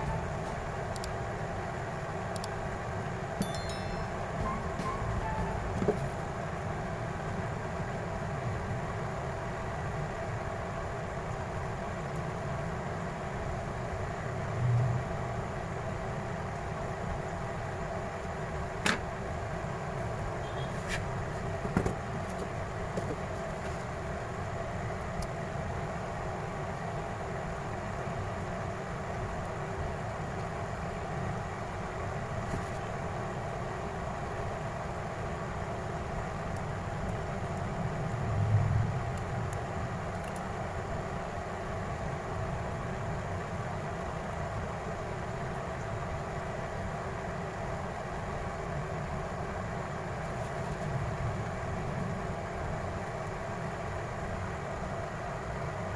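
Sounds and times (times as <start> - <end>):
steady background hum: 0.0 - 55.9.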